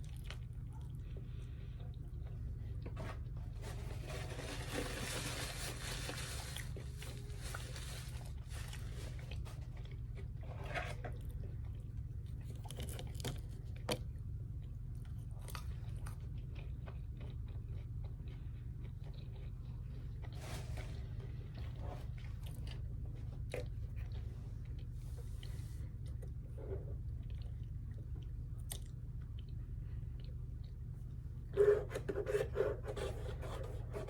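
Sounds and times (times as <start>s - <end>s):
chewing and crunching food: 0.0s - 32.0s
steady low hum: 0.0s - 34.0s.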